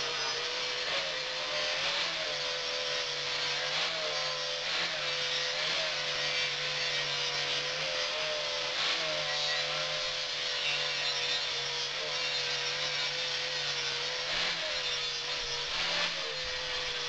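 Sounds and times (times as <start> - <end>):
power tool grinding steel: 0.0 - 17.0.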